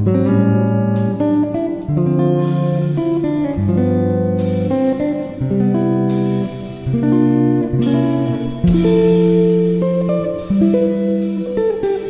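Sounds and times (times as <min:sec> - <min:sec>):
slow instrumental melody: 0:00.0 - 0:12.0.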